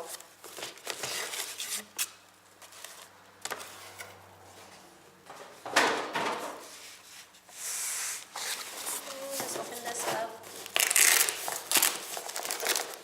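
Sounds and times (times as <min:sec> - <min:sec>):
packaging rustling scrape: 0:00.0 - 0:04.1, 0:06.6 - 0:13.0.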